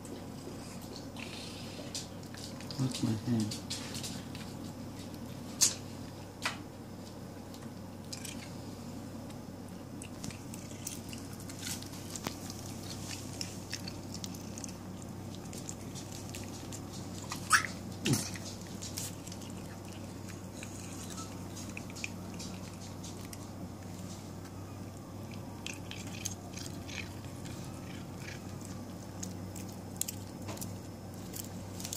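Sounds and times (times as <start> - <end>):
cats chewing grass: 0.0 - 31.9
steady low hum: 0.0 - 31.9.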